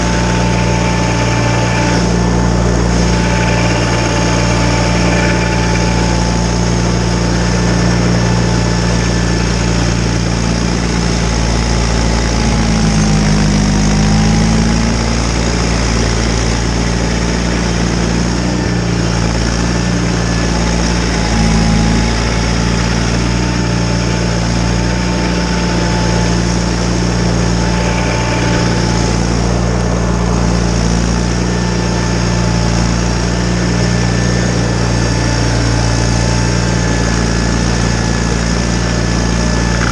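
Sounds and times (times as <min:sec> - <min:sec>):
garden tractor engine running: 0:00.0 - 0:39.9
thin steady whine: 0:00.0 - 0:39.9.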